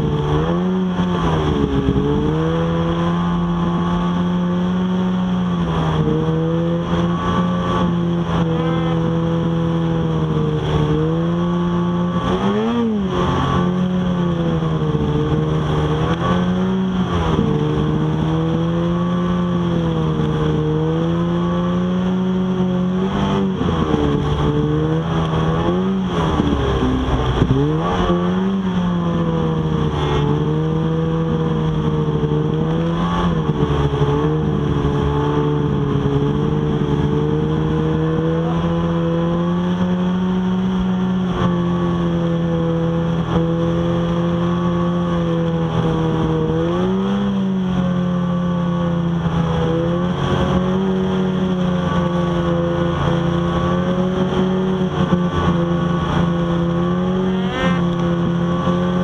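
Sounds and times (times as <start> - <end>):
snowmobile engine running hard: 0.0 - 59.0.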